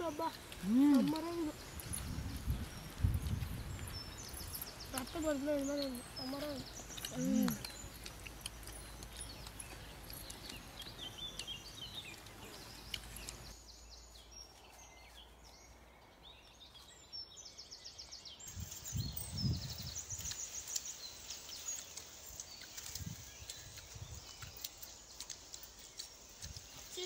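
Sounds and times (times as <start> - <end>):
birds chirping and calling: 0.0 - 27.0
faint rural background noise: 0.0 - 27.0.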